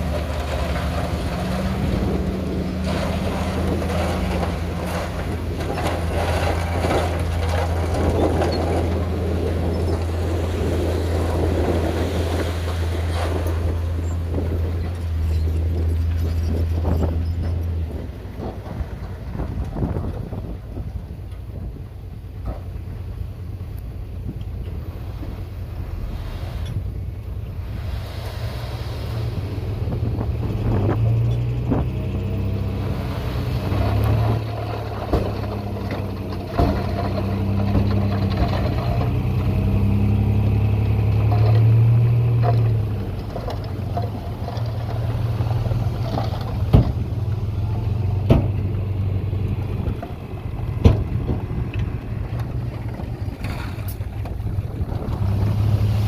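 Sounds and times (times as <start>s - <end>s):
earthmoving machinery engine drone: 0.0s - 21.6s, 22.2s - 56.0s.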